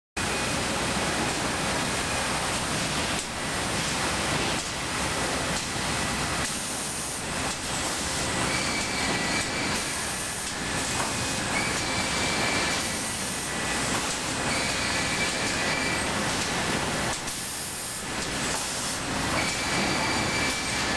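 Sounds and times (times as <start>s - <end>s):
machinery rumble and clatter: 0.2s - 20.9s.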